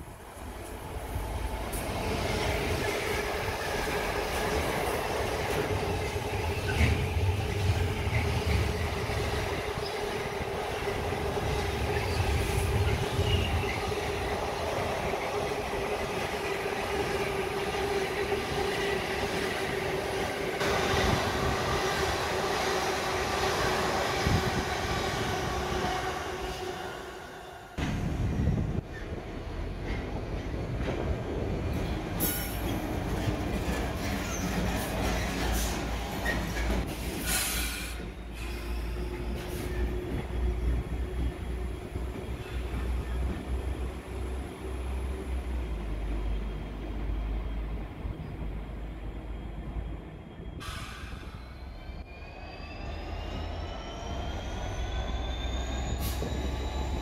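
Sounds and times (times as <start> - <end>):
diesel locomotive engine rumbling: 0.0 - 57.0.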